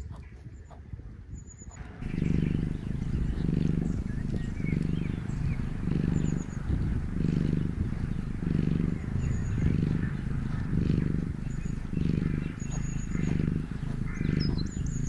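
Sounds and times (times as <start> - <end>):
faint bird chirps: 0.1 - 15.0
cat purring: 1.7 - 15.0.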